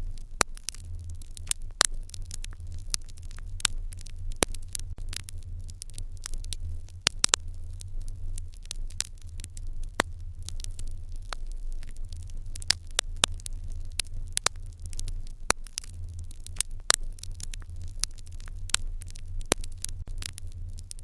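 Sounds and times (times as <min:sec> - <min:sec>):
low steady rumble: 0:00.0 - 0:21.0
wood fire crackling and popping: 0:00.0 - 0:21.0.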